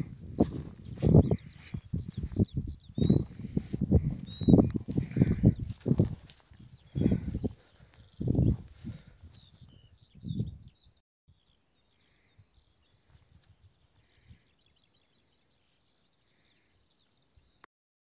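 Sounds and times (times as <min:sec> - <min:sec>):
small birds singing: 0:00.0 - 0:17.7.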